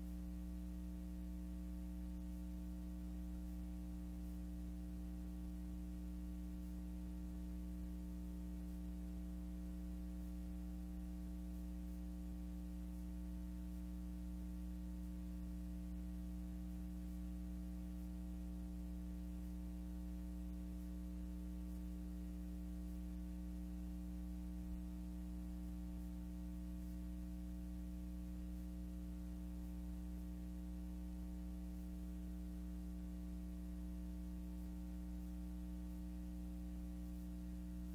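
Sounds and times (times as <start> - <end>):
electrical mains hum: 0.0 - 37.9.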